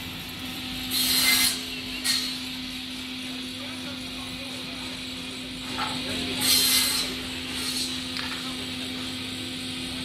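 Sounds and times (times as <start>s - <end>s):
saw running with steady hum: 0.0s - 10.0s.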